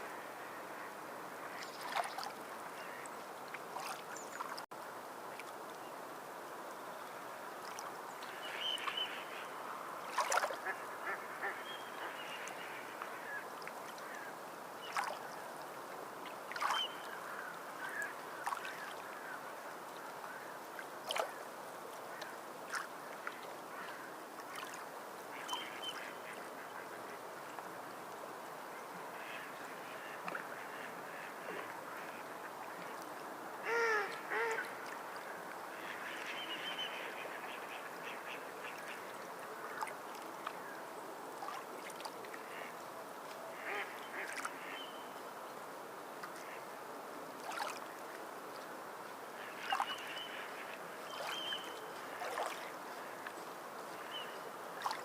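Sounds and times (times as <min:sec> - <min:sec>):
sea water lapping and splashing: 0:00.0 - 0:05.8, 0:07.0 - 0:44.9, 0:46.2 - 0:55.0
water birds calling: 0:00.0 - 0:55.0.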